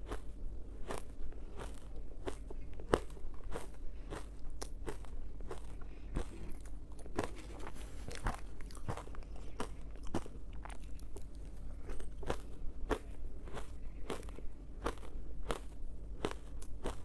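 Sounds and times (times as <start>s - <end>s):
ice crunching in mouth: 0.1s - 17.0s.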